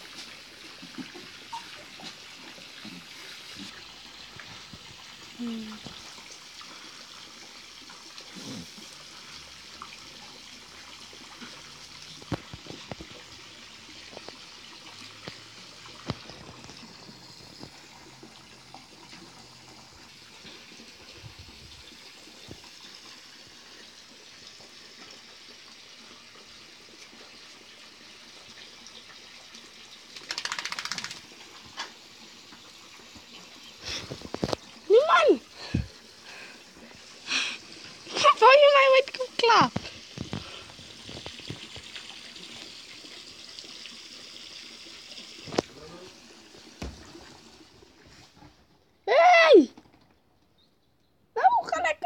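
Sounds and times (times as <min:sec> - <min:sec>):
water running from a hose: 0:00.0 - 0:49.7.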